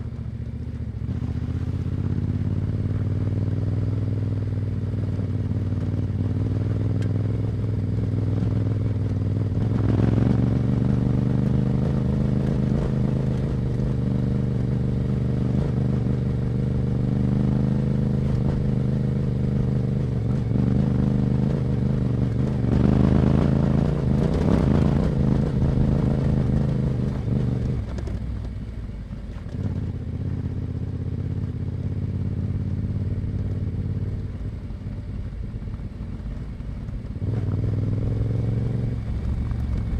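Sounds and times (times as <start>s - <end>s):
motorcycle engine revving: 0.0s - 28.5s, 29.3s - 39.9s.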